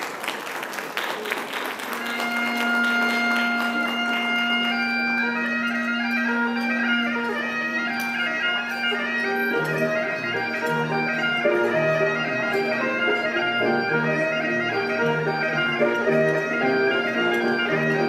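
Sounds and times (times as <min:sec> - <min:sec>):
country dance tune: 0:02.2 - 0:18.0.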